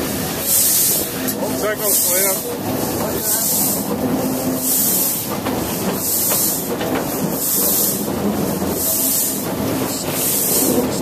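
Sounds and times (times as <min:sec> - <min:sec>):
steam locomotive hissing: 0:00.0 - 0:11.0
train wheels rumbling on rails: 0:00.0 - 0:11.0.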